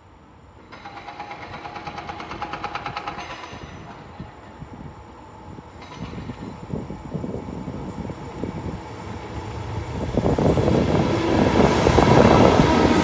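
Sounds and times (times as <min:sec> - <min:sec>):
freight train rumble: 0:00.4 - 0:13.0.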